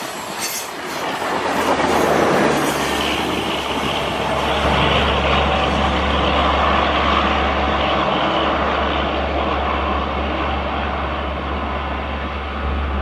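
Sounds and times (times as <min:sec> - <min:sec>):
diesel locomotive engine drone: 0:00.0 - 0:13.0
train rumble: 0:00.0 - 0:13.0.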